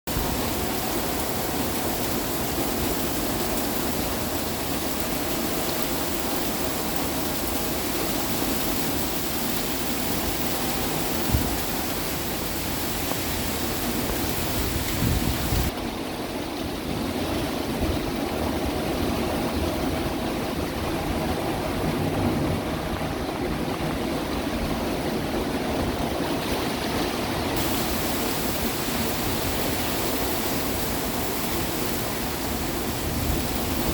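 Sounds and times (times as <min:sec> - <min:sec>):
heavy rain with wind: 0:00.1 - 0:33.9.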